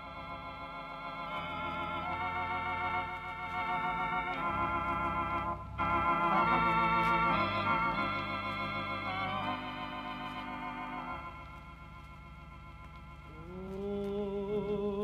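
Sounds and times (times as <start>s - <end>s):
music of held chords over bass: 0.0s - 15.0s.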